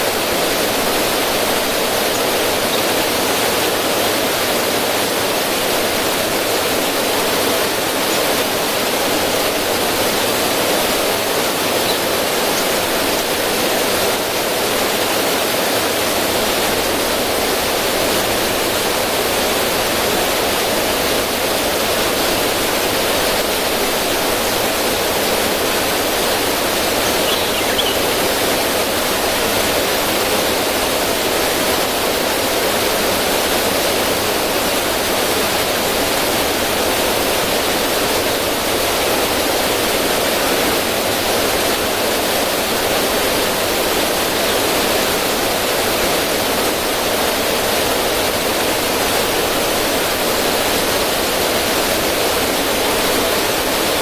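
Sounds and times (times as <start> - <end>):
river water splashing over rocks: 0.0 - 54.0.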